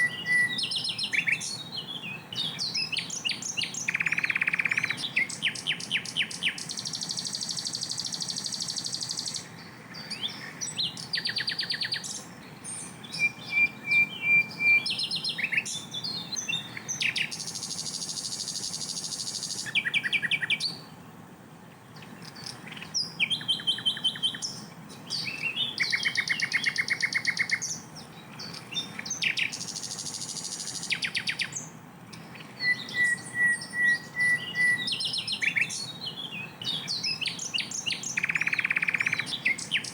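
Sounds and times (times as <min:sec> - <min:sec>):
flycatcher singing: 0:00.0 - 0:21.0, 0:21.9 - 0:39.9.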